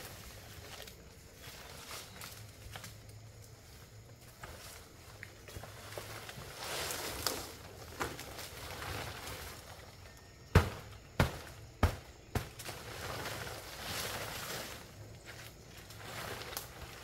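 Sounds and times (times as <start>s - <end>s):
soft rustling noise: 0.0s - 10.2s, 12.6s - 17.0s.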